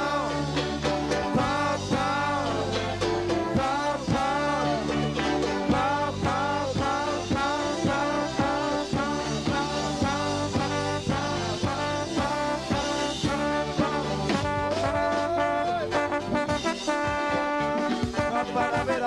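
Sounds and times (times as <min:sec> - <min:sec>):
live band playing: 0:00.0 - 0:19.0
trombone riffs: 0:00.0 - 0:19.0.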